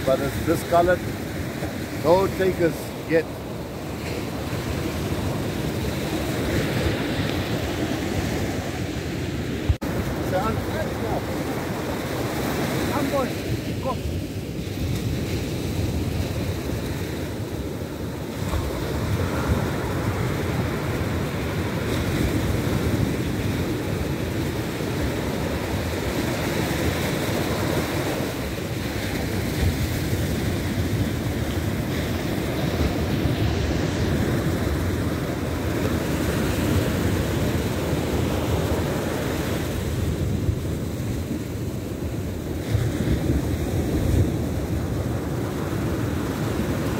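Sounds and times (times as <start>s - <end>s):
ocean surf breaking: 0.0s - 46.9s
wind rumbling on microphone: 0.0s - 46.9s.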